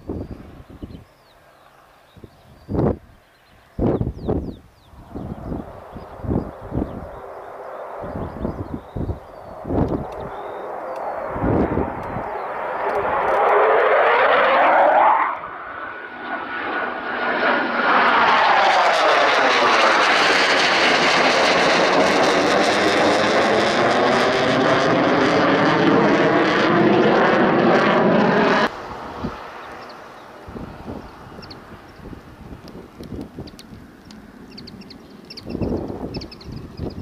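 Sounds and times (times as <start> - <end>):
jet engines passing overhead: 0.0 - 37.0.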